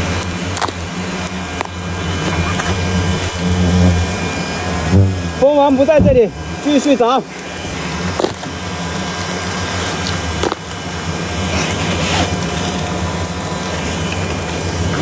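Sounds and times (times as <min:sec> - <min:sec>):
nest comb cracking: 0:00.0 - 0:05.6, 0:07.3 - 0:15.0
hornets buzzing: 0:00.0 - 0:15.0.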